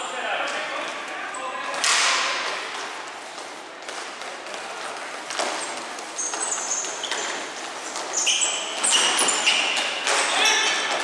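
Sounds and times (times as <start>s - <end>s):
shoes squeaking on court floor: 0.5s - 11.0s.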